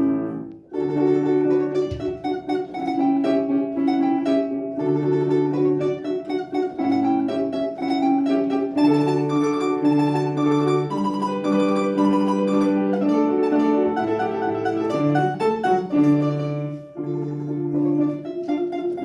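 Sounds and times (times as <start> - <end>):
plucked string instrument melody: 0.0 - 19.0.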